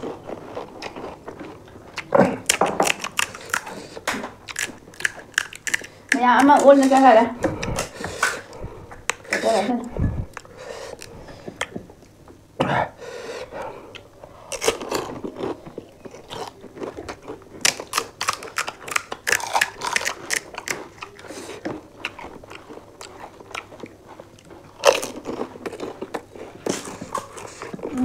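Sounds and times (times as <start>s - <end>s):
crisp shells crunching while chewed: 0.0s - 9.4s, 14.0s - 28.0s.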